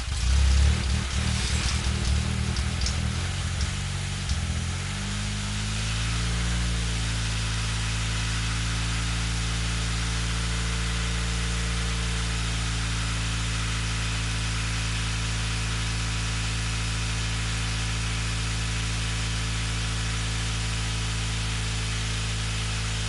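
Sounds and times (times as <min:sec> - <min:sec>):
car engine idling: 0:00.0 - 0:19.2.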